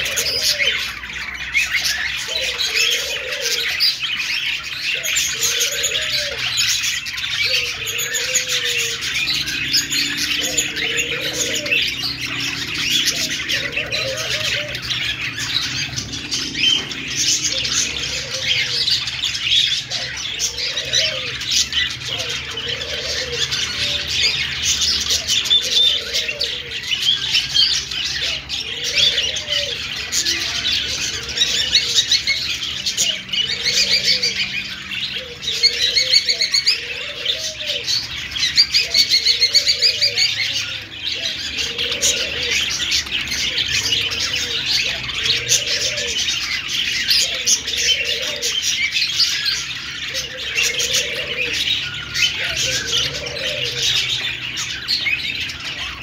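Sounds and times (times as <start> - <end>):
budgerigars chattering: 0.0 - 56.0
low bird call: 0.0 - 56.0.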